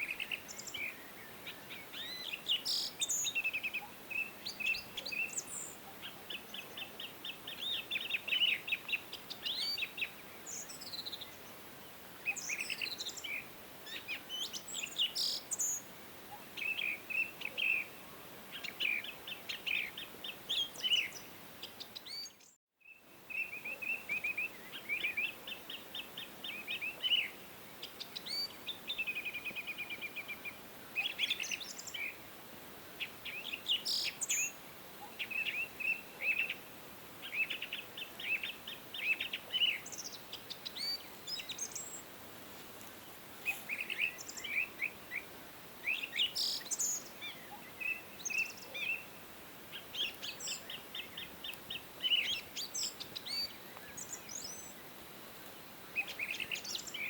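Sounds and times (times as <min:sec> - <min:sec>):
songbirds singing: 0:00.0 - 0:32.3, 0:33.0 - 0:42.1, 0:42.8 - 0:57.0
faint steady hiss: 0:00.0 - 0:57.0.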